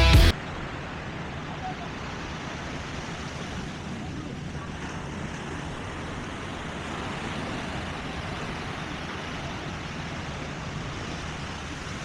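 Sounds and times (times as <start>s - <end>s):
surf washing: 0.3s - 12.0s
wind rumbling on microphone: 0.4s - 12.0s.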